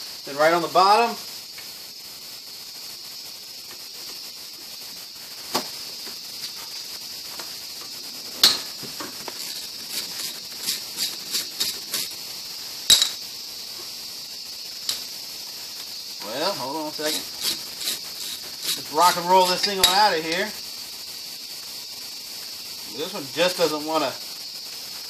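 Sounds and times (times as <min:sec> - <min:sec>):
faint high hiss: 0:00.0 - 0:25.0.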